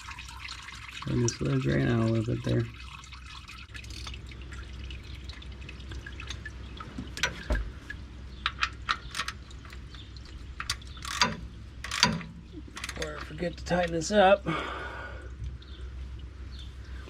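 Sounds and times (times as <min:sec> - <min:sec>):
oil dripping: 0:00.0 - 0:17.0
steady low hum: 0:00.0 - 0:17.0.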